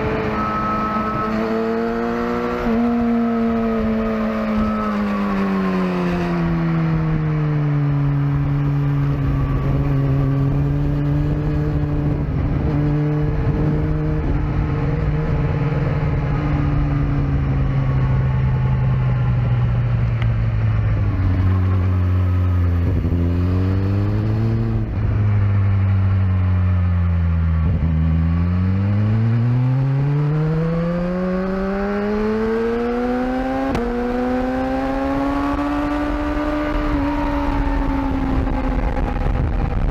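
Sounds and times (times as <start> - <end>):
motorcycle engine on race track: 0.0 - 39.9.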